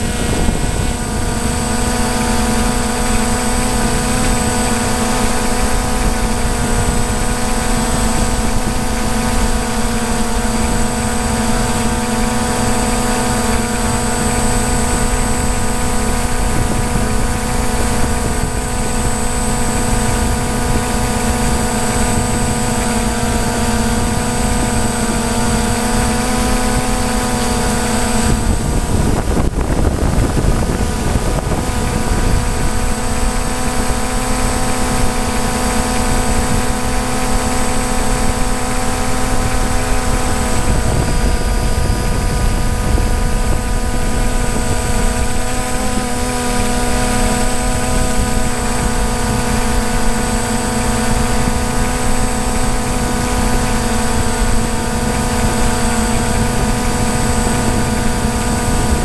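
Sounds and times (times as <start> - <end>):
drone propellers buzzing: 0.0 - 59.0.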